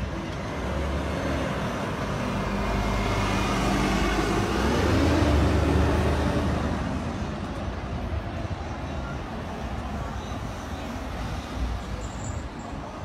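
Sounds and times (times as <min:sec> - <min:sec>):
bus and car engines rumbling: 0:00.0 - 0:13.0.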